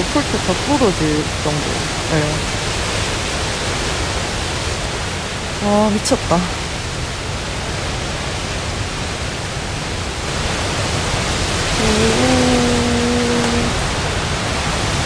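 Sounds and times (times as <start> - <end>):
strong wind blasting over tent: 0.0 - 15.0.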